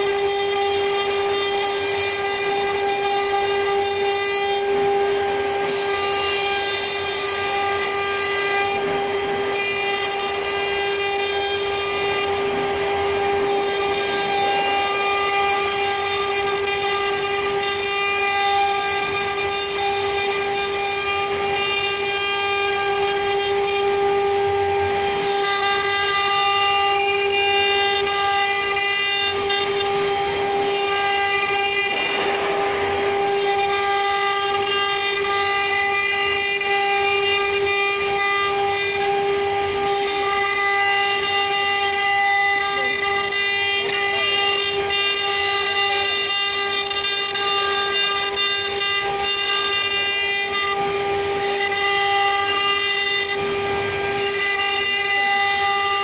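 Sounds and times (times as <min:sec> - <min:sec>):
hiss of bit cutting wood: 0:00.0 - 0:56.0
router spindle whine: 0:00.0 - 0:56.0.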